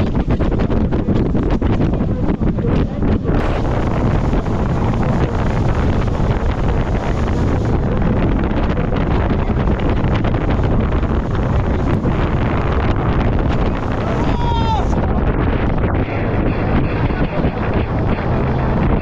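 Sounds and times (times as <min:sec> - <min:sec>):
boat and river water rushing: 0:00.0 - 0:19.0
wind buffeting microphone: 0:00.0 - 0:19.0.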